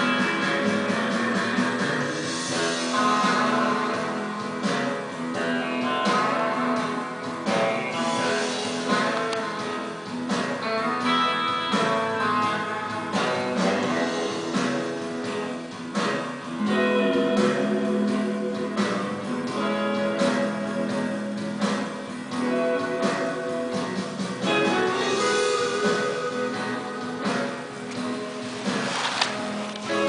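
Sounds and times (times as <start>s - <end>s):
guitar playing: 0.0s - 30.0s.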